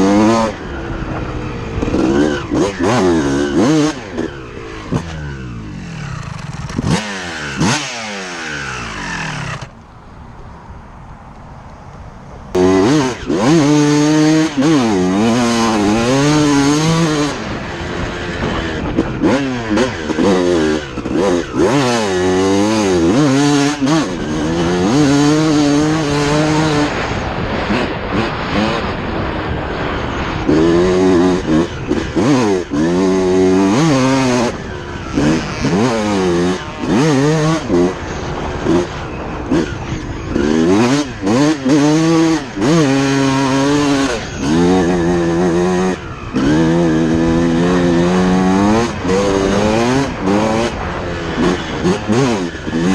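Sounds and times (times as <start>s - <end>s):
motocross bike engine revving: 0.0s - 9.8s, 12.5s - 52.9s.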